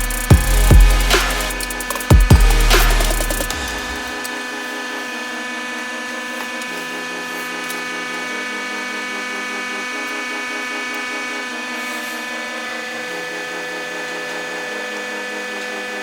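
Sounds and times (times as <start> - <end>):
hydraulic press whine and hum: 0.0 - 16.0.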